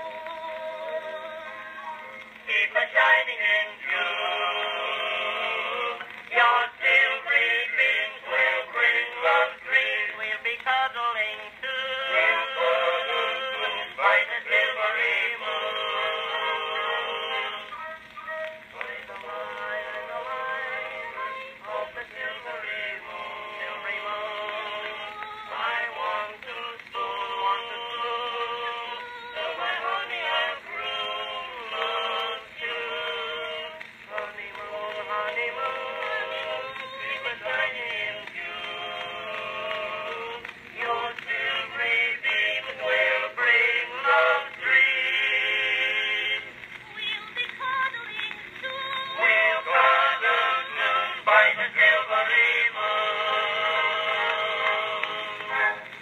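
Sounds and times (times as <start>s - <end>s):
old phonograph recording of singing: 0.0s - 56.0s.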